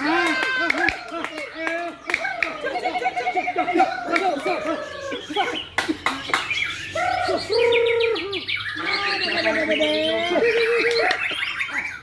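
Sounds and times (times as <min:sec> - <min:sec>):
songbirds singing whistles: 0:00.0 - 0:12.0.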